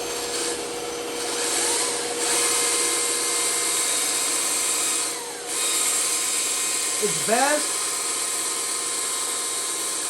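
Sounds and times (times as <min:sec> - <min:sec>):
bandsaw motor hum: 0:00.0 - 0:10.0.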